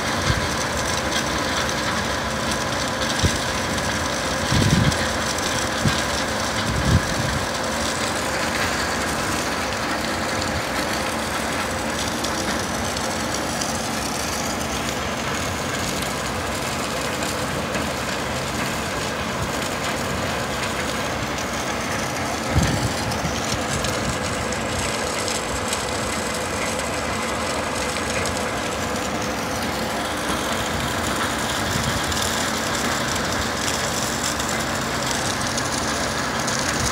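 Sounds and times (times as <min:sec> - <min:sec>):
mechanical running noise: 0:02.7 - 0:36.9.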